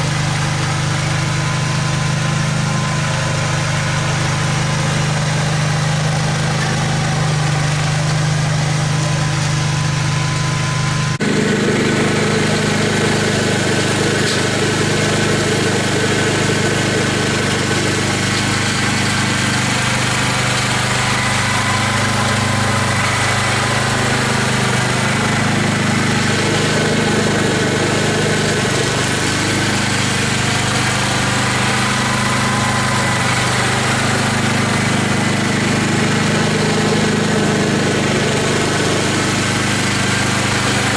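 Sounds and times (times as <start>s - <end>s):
small gasoline engine running: 0.0s - 40.9s.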